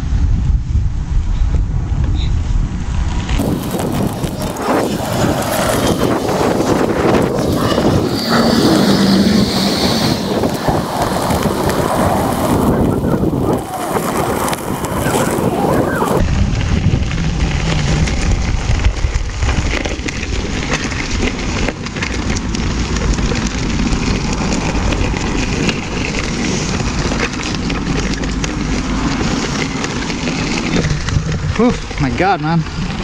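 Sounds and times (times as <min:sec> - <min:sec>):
wind buffeting microphone: 0:00.0 - 0:33.0
tyre crunching on gravel: 0:03.4 - 0:32.2.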